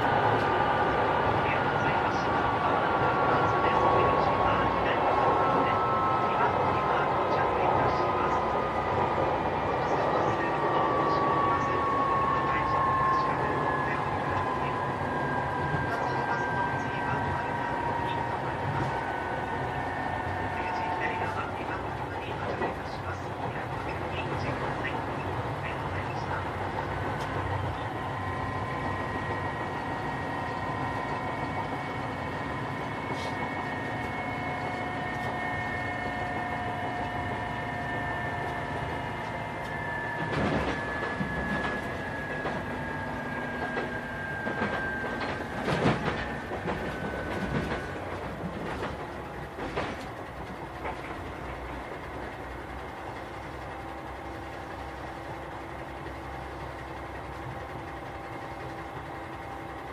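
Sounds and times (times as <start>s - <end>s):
train engine whine: 0.0s - 59.9s.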